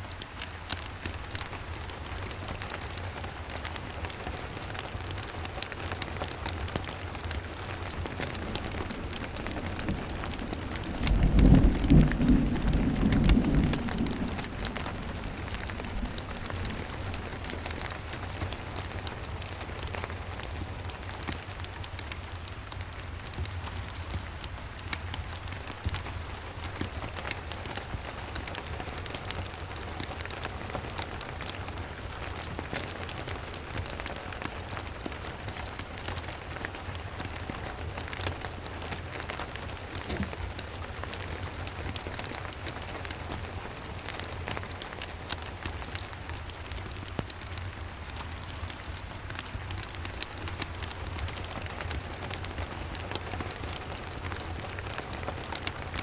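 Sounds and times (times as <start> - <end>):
steady rain pattering: 0.0 - 56.0
wood fire crackling: 0.0 - 56.0.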